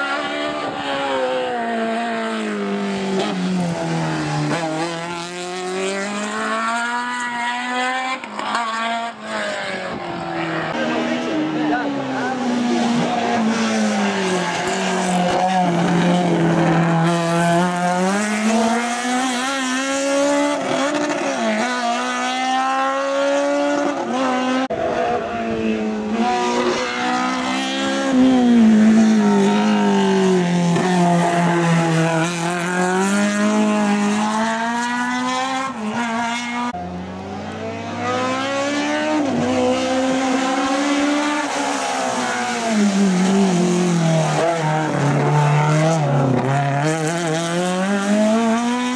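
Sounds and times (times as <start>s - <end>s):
racing car engine revving: 0.0s - 48.9s.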